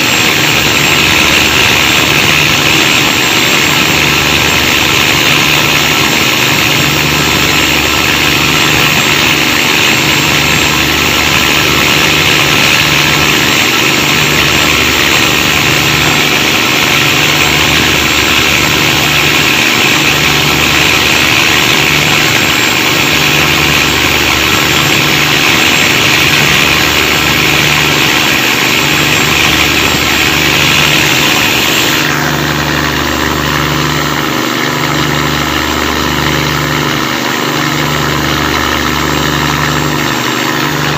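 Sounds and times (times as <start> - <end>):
loud diesel engine throbbing: 0.0 - 40.9.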